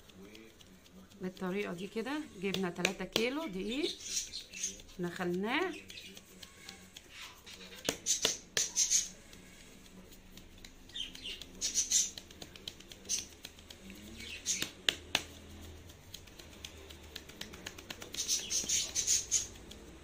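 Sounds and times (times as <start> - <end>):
flour swishing through sieve: 0.0 - 20.0.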